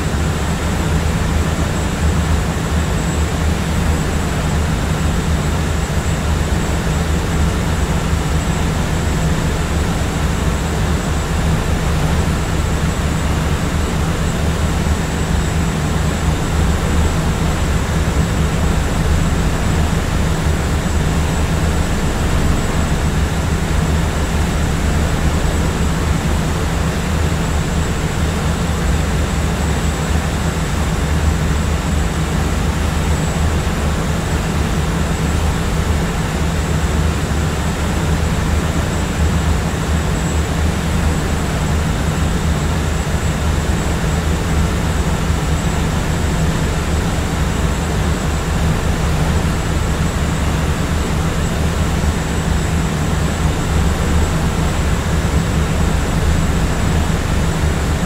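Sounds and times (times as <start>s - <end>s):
airliner cabin engine hum: 0.0s - 58.0s.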